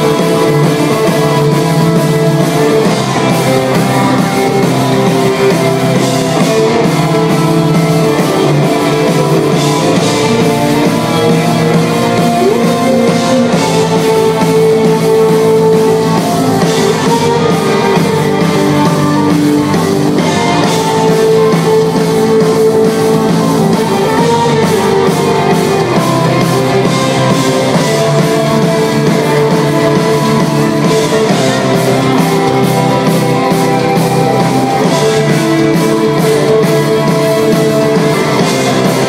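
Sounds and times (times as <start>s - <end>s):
electric guitar chords: 0.0s - 39.0s
live rock band playing: 0.0s - 39.0s.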